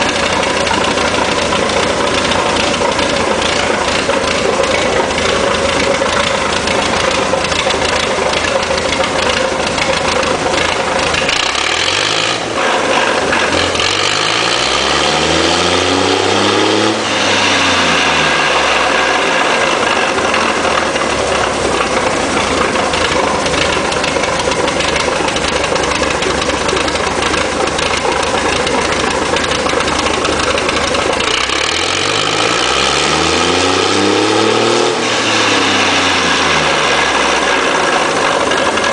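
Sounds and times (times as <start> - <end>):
engine idling and revving: 0.0 - 38.9.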